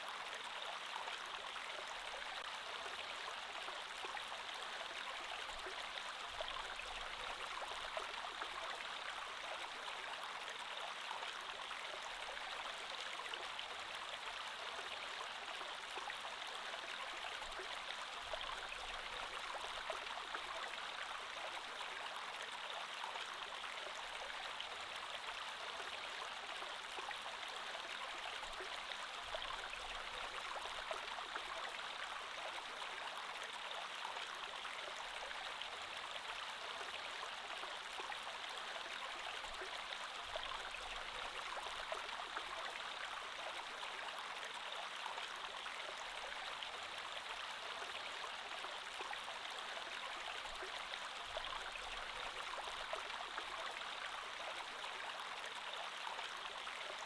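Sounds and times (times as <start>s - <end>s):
creek water flowing over stones: 0.0s - 57.0s.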